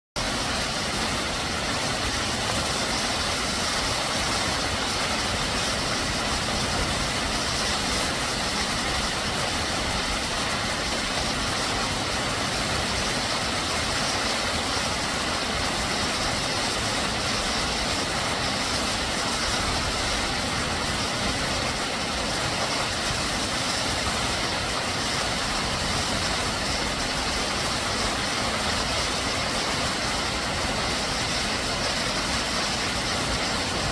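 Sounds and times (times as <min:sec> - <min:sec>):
waterfall roaring: 0:00.2 - 0:33.9.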